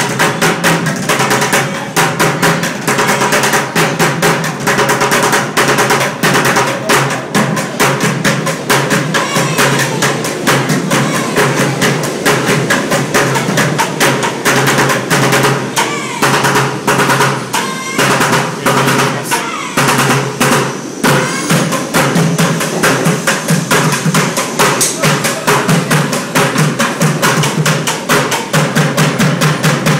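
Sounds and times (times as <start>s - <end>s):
plastic bucket drumming: 0.0s - 29.9s.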